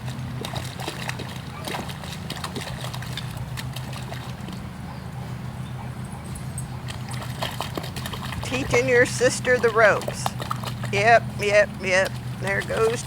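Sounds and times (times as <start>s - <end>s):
paws splashing in mud puddles: 0.0s - 13.0s
steady low hum: 0.0s - 13.0s.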